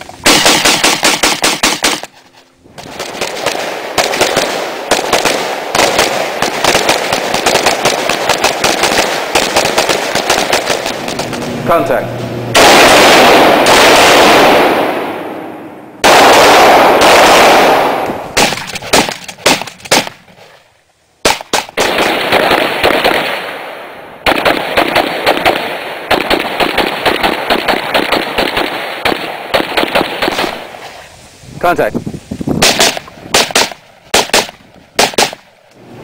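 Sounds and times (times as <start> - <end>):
rapid rifle gunfire: 0.2 - 2.1, 2.8 - 11.5, 12.6 - 15.2, 16.0 - 20.2, 21.2 - 23.6, 24.2 - 30.7, 32.6 - 35.4.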